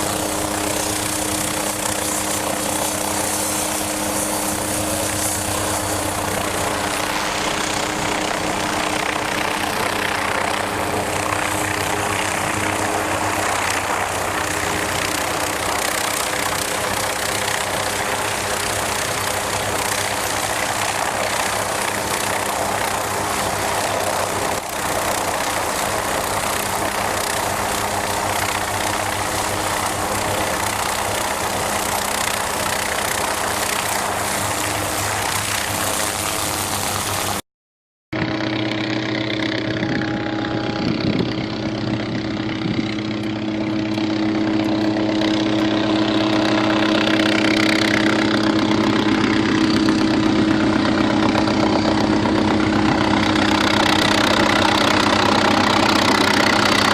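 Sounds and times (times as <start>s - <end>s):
helicopter turbine and rotor running: 0.0s - 37.4s, 38.2s - 56.9s.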